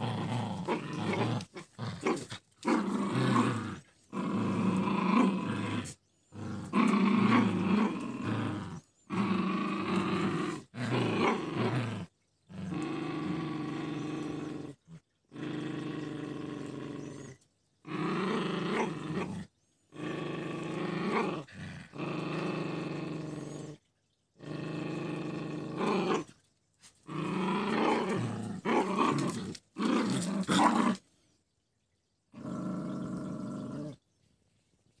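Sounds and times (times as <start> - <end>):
dogs growling: 0.0 - 23.8, 24.4 - 26.4, 27.0 - 31.1, 32.3 - 34.0.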